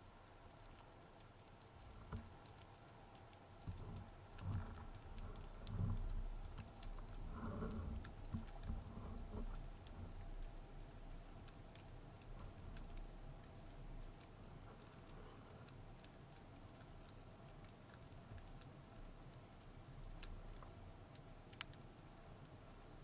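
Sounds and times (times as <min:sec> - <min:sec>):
underwater crackle of clicks: 0:00.2 - 0:23.0.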